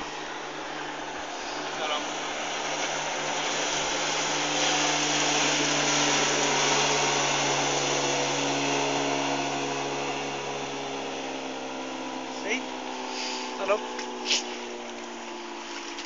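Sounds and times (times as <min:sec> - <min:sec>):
outboard engine drone: 0:00.0 - 0:16.0
rush of wind and water: 0:00.0 - 0:16.0.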